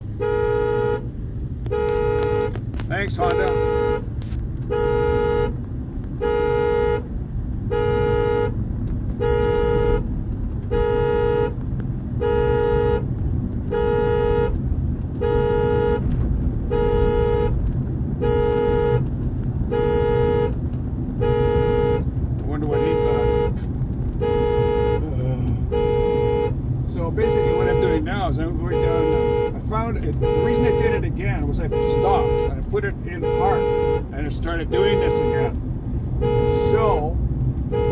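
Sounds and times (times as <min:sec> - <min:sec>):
truck engine rumble: 0:00.0 - 0:37.9
truck horn honking: 0:00.0 - 0:37.9.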